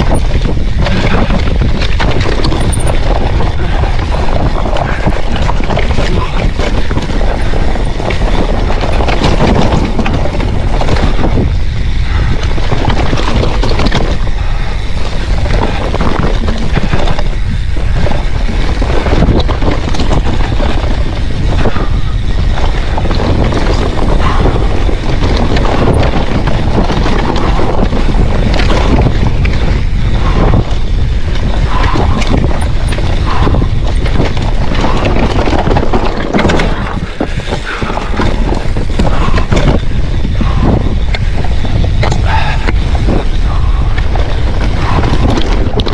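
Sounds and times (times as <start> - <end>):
bike rattling over bumps: 0.0 - 45.9
wind rushing over microphone: 0.0 - 45.9.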